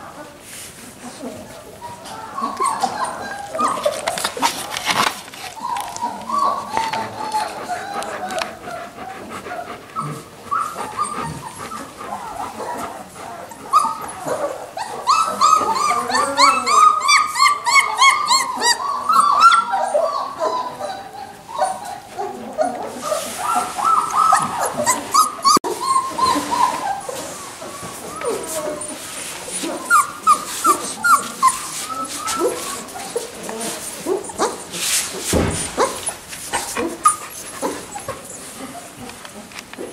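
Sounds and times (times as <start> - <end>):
puppies whimpering: 1.1 - 39.9.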